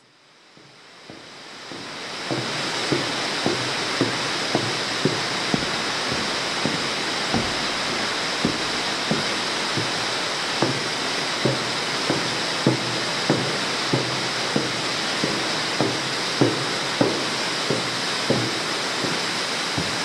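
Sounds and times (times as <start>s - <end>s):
water rushing in a cave: 0.4s - 20.0s
short knocks or drips: 0.6s - 20.0s.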